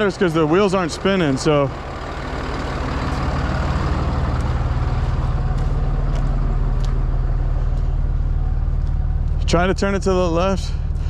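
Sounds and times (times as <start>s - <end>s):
tow truck engine running: 0.0s - 11.0s.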